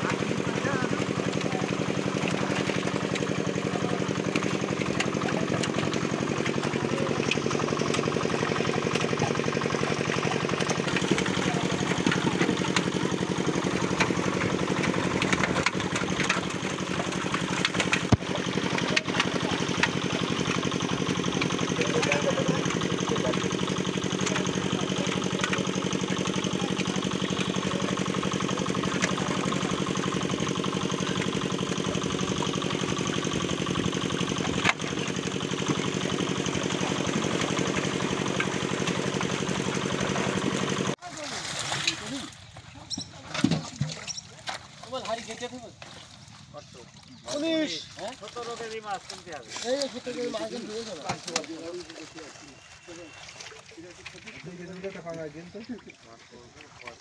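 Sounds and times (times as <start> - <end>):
engine running: 0.0 - 57.0
fish splashing in a net: 0.0 - 57.0
sharp splashes and knocks: 0.0 - 57.0.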